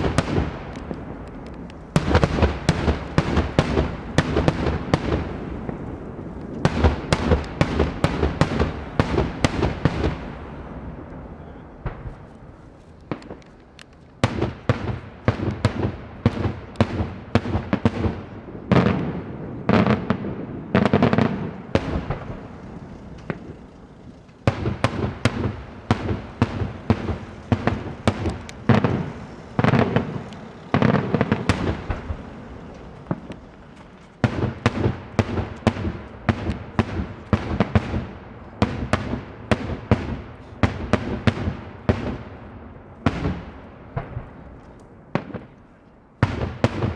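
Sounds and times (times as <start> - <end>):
fireworks bangs echoing: 0.0 - 12.3, 13.1 - 46.9.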